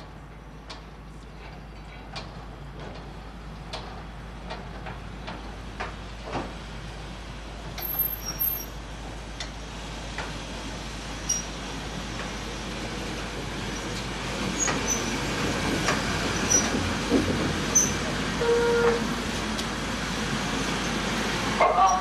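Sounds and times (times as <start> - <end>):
freight wagon rumbling on track: 0.0 - 22.0.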